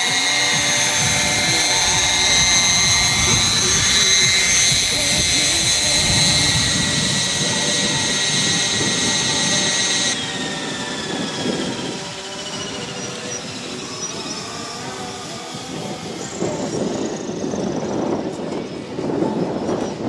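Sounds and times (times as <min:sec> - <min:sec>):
rotor winding down: 0:00.0 - 0:18.3
model helicopter turbine whining: 0:00.0 - 0:20.0.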